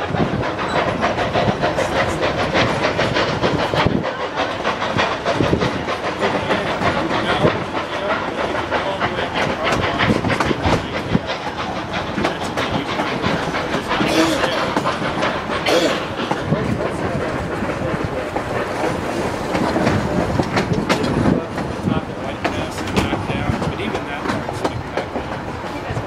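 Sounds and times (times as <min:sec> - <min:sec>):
train rumble: 0:00.0 - 0:26.0
train wheels clicking over rail joints: 0:00.0 - 0:26.0.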